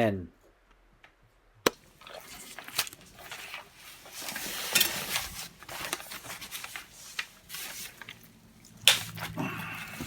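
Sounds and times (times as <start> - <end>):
newspaper crinkling and rustling: 1.8 - 10.0.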